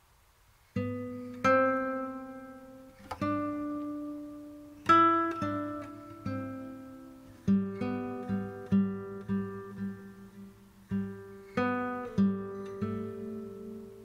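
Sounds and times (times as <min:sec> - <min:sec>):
slow acoustic guitar: 0:00.0 - 0:14.0.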